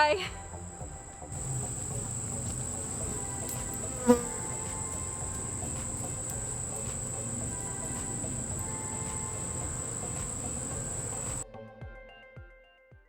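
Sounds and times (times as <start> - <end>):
honeybees buzzing: 0.4 - 11.4
bee buzzing close by: 0.5 - 11.4
high-pitched insect trill: 0.5 - 11.4.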